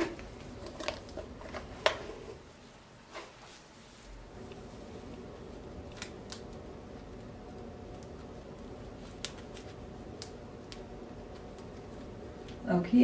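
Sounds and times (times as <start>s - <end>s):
steady low hum: 0.0s - 13.0s
hair rustling: 0.4s - 13.0s.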